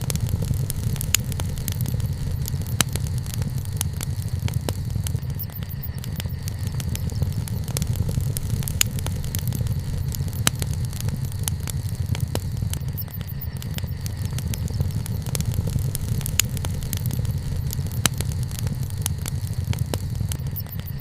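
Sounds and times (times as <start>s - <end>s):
bonfire crackling and popping: 0.0s - 21.0s
low fire rumble: 0.0s - 21.0s.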